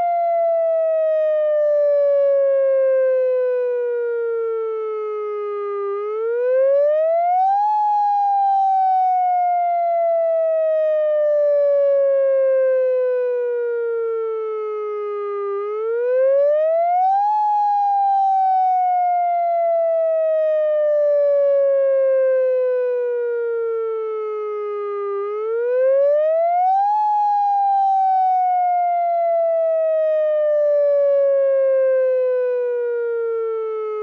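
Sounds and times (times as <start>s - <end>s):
electronic siren wailing: 0.0s - 34.0s.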